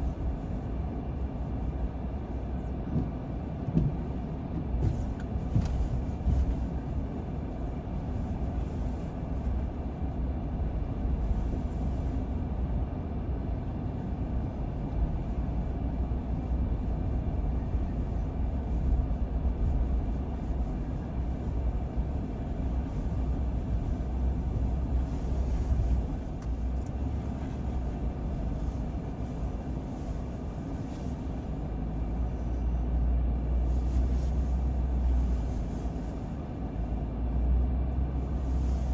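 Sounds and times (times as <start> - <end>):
car tyres and engine rumble: 0.0 - 38.9.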